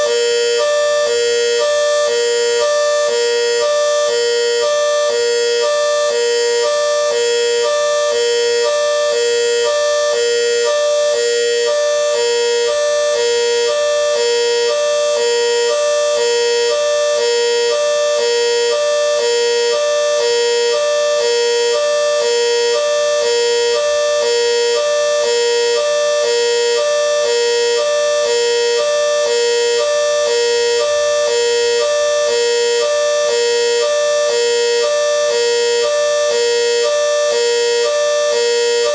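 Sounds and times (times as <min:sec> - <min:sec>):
hi-lo siren: 0:00.0 - 0:38.9.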